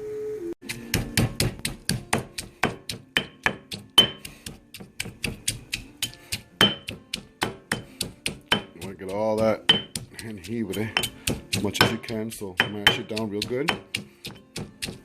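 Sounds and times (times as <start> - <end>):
utensil mashing in a pot: 0.6 - 15.0.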